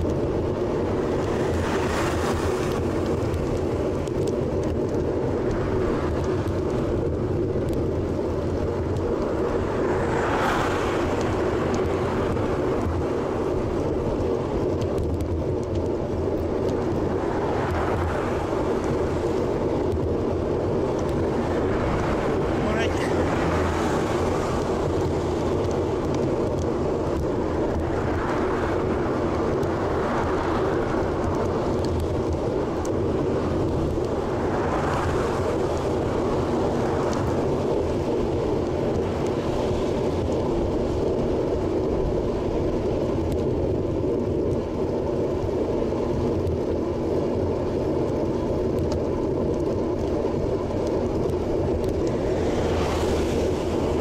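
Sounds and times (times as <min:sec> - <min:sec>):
bicycle road rumble: 0:00.0 - 0:54.0
motor vehicles passing: 0:00.0 - 0:54.0
wind: 0:00.0 - 0:54.0.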